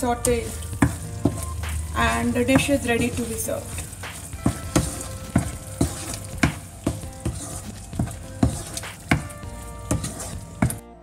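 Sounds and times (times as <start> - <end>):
simmering gravy sizzling: 0.0 - 11.0
wooden spatula knocking against pan: 0.8 - 10.8.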